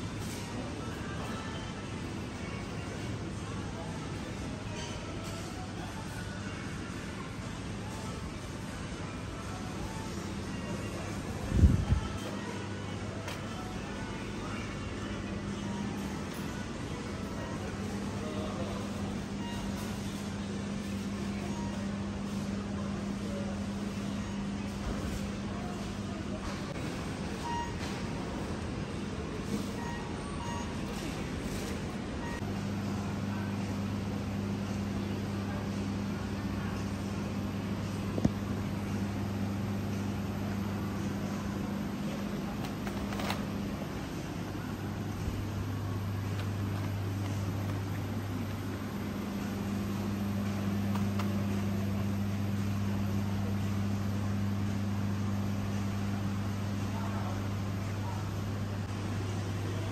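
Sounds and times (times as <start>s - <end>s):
ventilation and refrigeration hum: 0.0s - 59.9s.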